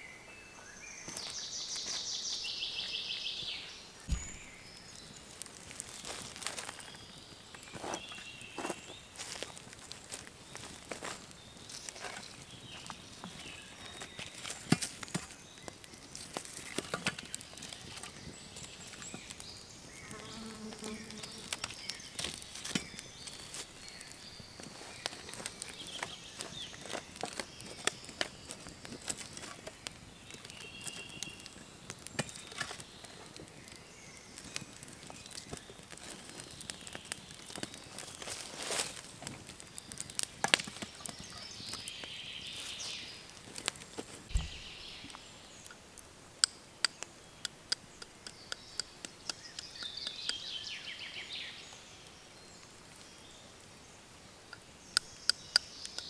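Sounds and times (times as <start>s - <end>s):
birds chirping: 0.0s - 56.0s
wood fire crackling: 1.0s - 56.0s.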